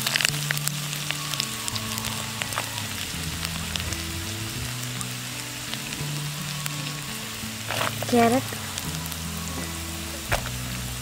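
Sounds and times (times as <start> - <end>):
ginger sizzling in hot oil: 0.0 - 11.0
soft background music: 0.0 - 11.0.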